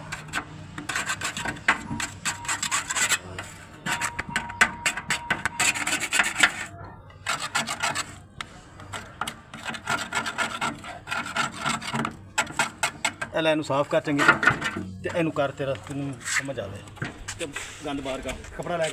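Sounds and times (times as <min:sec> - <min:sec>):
scraping paint off metal: 0:00.0 - 0:13.4, 0:14.0 - 0:18.9.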